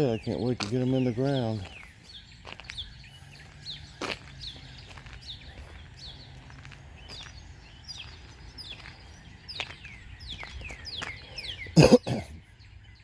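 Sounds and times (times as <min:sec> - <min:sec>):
small songbirds chirping: 0:00.0 - 0:13.0.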